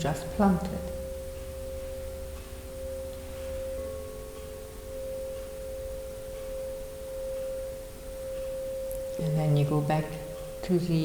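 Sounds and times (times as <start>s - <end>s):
ambient meditation music drone: 0.0s - 11.0s.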